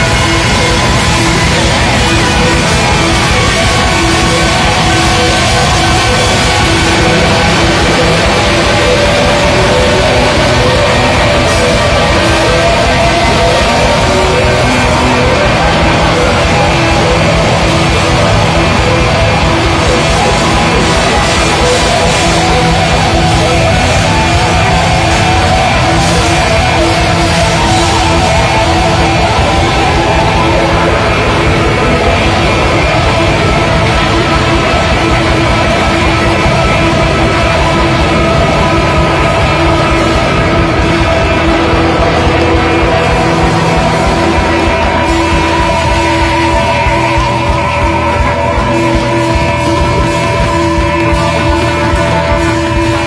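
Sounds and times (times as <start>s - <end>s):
loud noise rock band: 0.0s - 53.0s.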